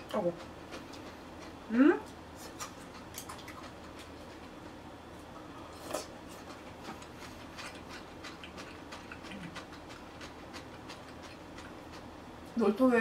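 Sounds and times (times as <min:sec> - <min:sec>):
eating clicks and smacks: 0:00.0 - 0:04.6, 0:06.0 - 0:12.6.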